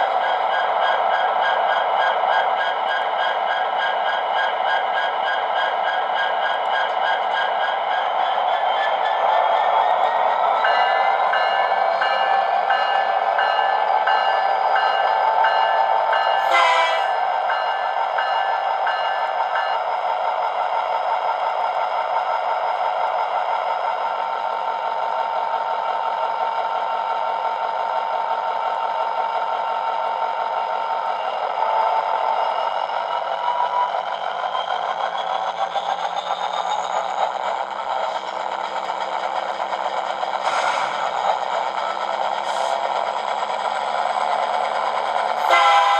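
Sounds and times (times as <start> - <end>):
model locomotive engine sound: 0.0 - 45.9.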